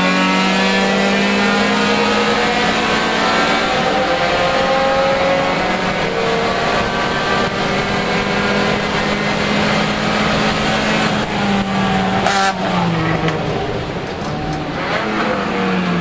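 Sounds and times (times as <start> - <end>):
car engine running hard: 0.0 - 16.0.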